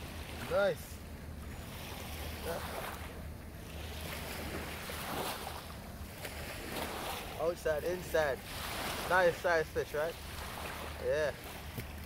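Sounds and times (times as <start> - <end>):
small waves washing: 0.0 - 12.0.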